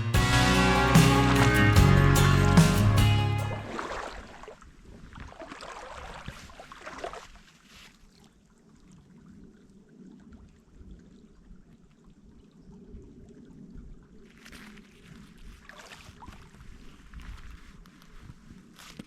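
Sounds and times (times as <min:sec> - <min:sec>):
creek water trickling: 0:00.5 - 0:13.4, 0:14.0 - 0:17.6.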